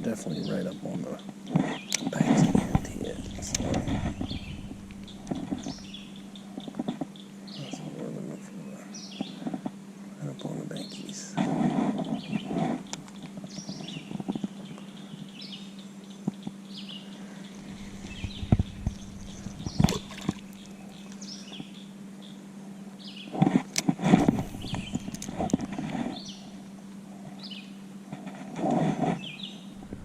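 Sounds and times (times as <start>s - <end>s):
steady low hum: 0.0s - 15.2s, 16.9s - 22.7s, 23.6s - 27.9s, 29.6s - 30.0s.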